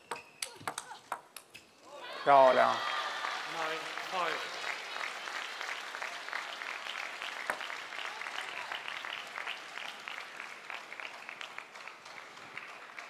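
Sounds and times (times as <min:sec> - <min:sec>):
crowd applauding: 0:02.2 - 0:13.0.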